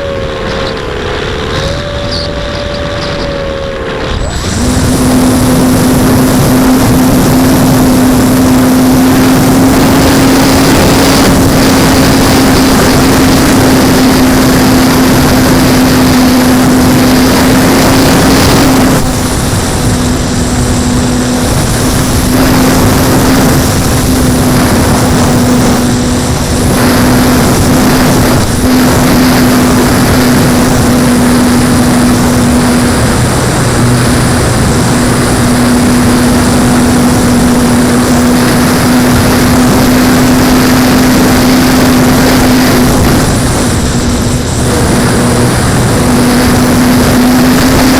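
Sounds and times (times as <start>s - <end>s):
model plane motor droning: 0.0s - 47.9s
wind noise on microphone: 0.0s - 47.9s.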